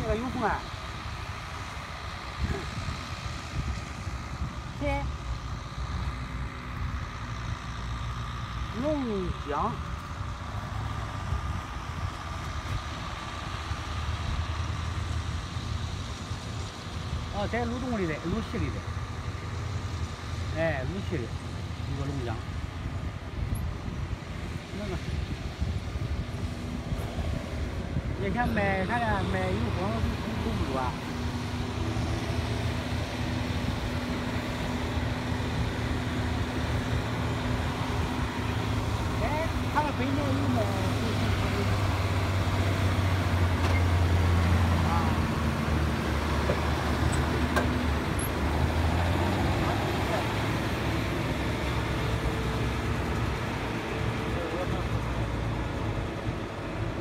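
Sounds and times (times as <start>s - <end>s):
tractor engine rumbling: 0.0s - 57.0s.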